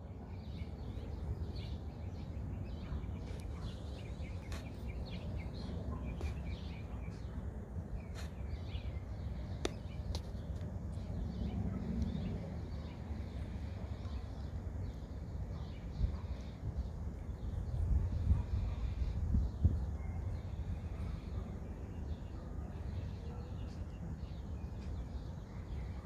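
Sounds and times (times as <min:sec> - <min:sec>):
steady low rumble: 0:00.0 - 0:23.0
birds chirping: 0:00.0 - 0:26.0.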